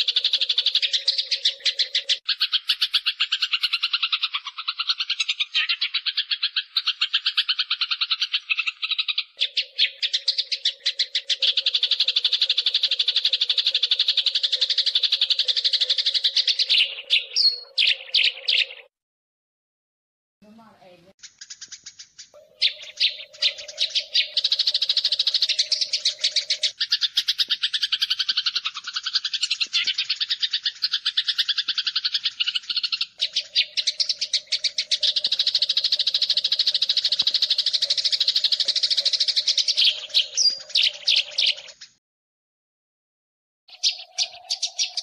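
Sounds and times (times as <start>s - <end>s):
sparrows chirping harshly: 0.0s - 18.9s, 20.5s - 42.0s, 43.7s - 45.0s.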